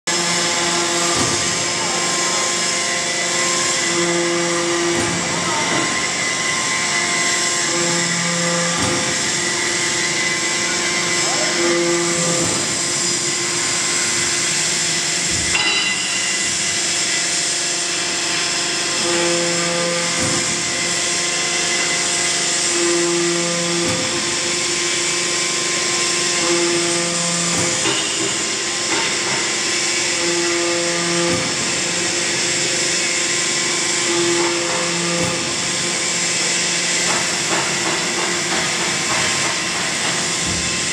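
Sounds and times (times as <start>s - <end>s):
deep humming tone: 0.1s - 17.1s, 18.0s - 37.6s
hydraulic machine hiss and hum: 0.1s - 40.9s.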